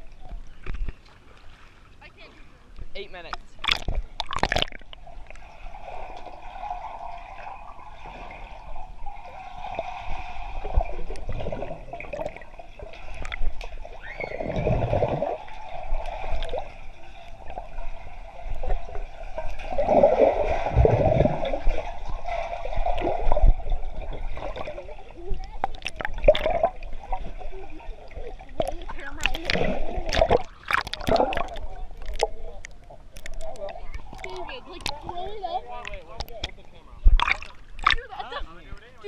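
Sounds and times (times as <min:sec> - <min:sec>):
underwater swirling water and bubbles: 0:00.0 - 0:39.0.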